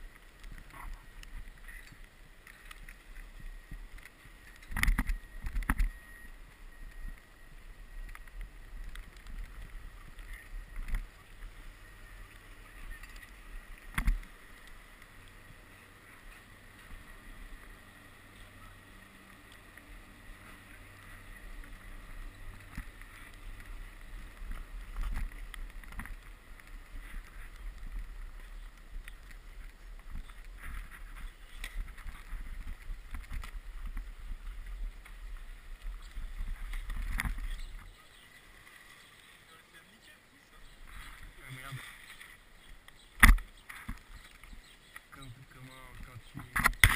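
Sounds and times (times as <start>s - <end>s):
board scraping over snow: 0.0s - 44.6s.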